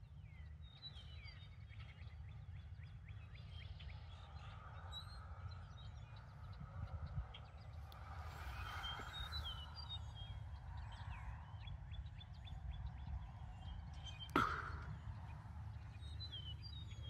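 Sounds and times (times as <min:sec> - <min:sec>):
wind rumble on microphone: 0:00.0 - 0:17.0
birds chirping: 0:00.3 - 0:17.0.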